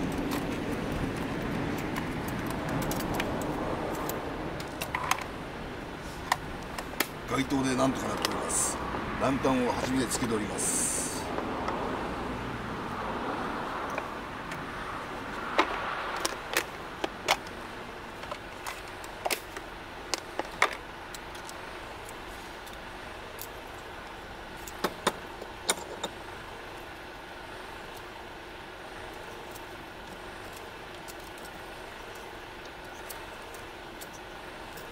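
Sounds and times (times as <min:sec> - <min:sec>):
steady background hum: 0:00.0 - 0:34.9.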